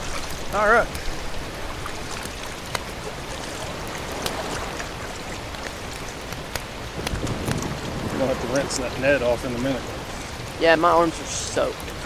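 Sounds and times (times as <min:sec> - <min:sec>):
small water drips: 0:00.0 - 0:12.0
water splashing and trickling: 0:00.0 - 0:12.0.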